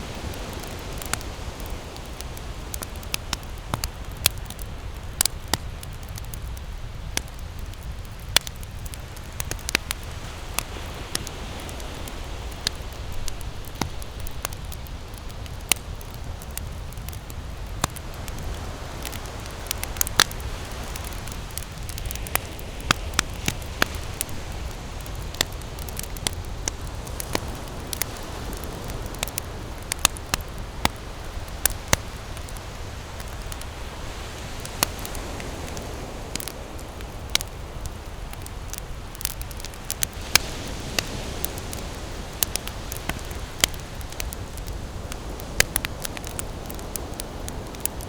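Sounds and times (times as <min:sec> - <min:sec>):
campfire crackles and pops: 0:00.0 - 0:48.0
fire rumble and hiss: 0:00.0 - 0:48.0.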